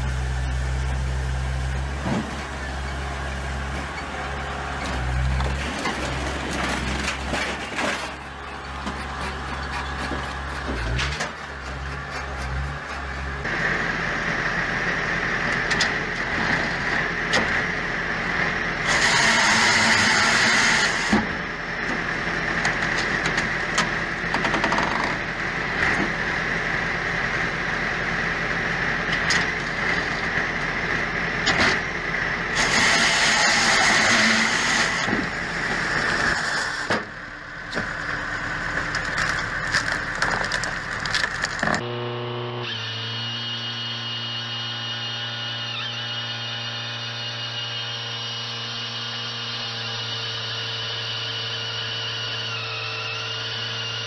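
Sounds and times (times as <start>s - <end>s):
machinery whining: 0.0s - 54.0s.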